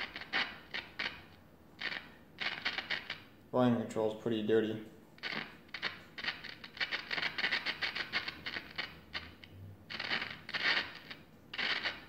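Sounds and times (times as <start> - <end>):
scratchy crackling from speaker: 0.0 - 12.0.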